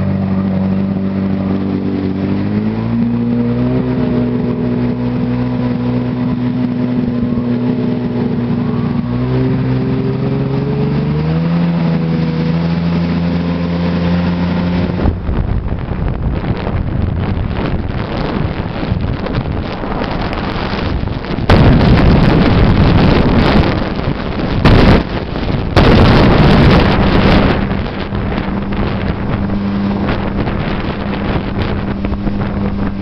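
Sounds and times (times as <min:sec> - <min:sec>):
jet ski engine running: 0:00.0 - 0:33.0
wind rushing on microphone: 0:00.0 - 0:33.0.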